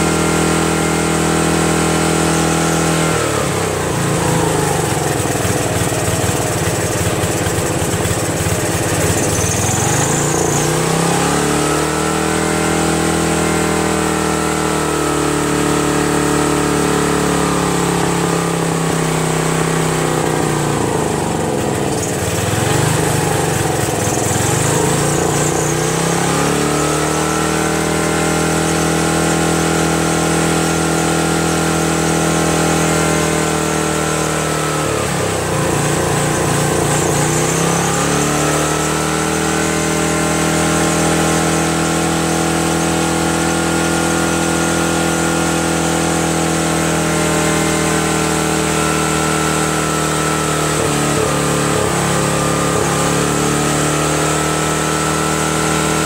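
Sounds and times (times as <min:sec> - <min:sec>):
generator engine running fast: 0:00.0 - 0:56.0.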